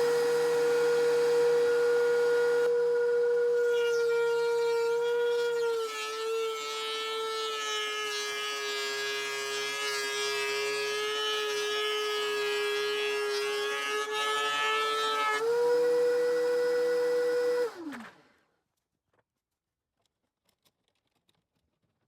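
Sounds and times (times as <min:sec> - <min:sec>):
planer cutting hiss: 0:00.0 - 0:18.2
thickness planer whining: 0:00.0 - 0:18.2.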